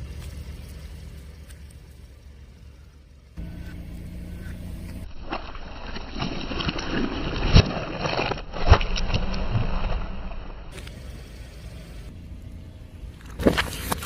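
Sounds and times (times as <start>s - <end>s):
car tyre crushing objects: 0.0s - 11.9s, 13.0s - 14.0s.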